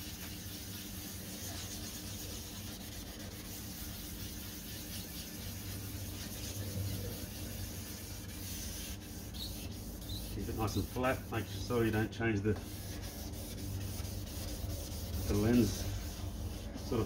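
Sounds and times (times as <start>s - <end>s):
wet sandpaper rubbing plastic: 0.0s - 12.0s, 12.6s - 17.0s.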